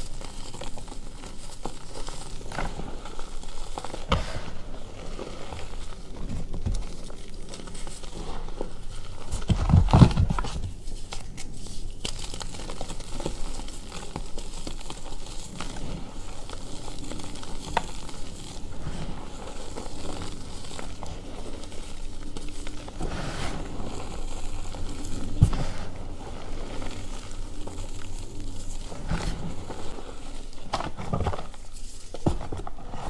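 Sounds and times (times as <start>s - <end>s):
chalk crunching and crackling: 0.0s - 33.0s.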